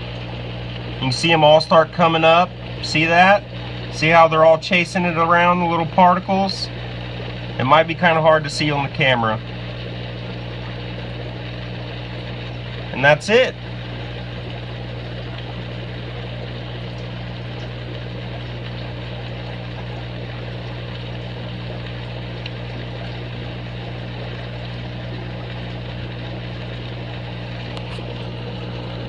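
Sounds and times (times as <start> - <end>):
aquarium pumps humming: 0.0 - 29.0
constant hiss of filtration: 0.0 - 29.0.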